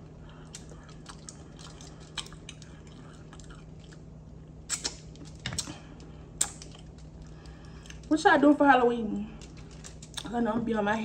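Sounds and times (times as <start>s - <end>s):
wet chewing: 0.2s - 8.1s, 9.4s - 10.3s.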